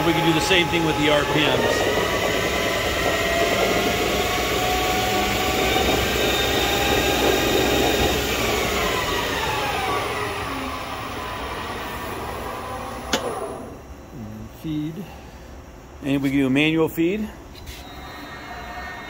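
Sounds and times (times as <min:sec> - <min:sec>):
lathe spindle whine: 0:00.0 - 0:14.0, 0:17.0 - 0:19.0.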